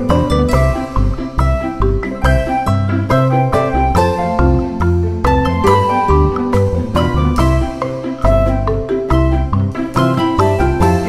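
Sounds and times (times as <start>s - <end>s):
background music melody with bass line: 0.0s - 11.0s.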